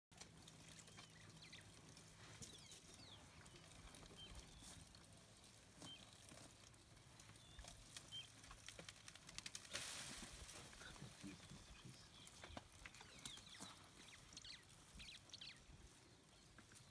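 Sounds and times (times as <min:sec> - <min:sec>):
branches rustling: 0:00.1 - 0:16.9.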